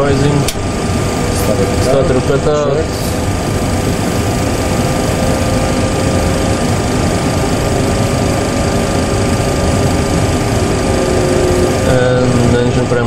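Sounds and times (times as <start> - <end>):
jet engine idling hum: 0.0 - 13.0.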